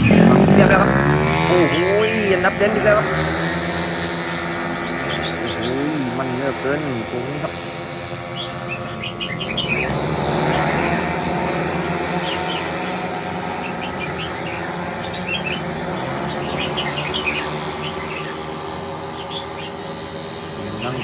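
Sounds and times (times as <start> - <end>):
birds chirping: 0.0 - 21.0
race car engines running: 0.0 - 21.0.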